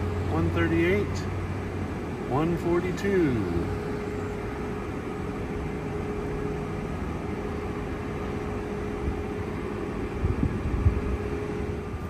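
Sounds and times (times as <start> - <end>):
charging station hum and whir: 0.0 - 12.0
constant mid-pitched tone: 0.0 - 12.0.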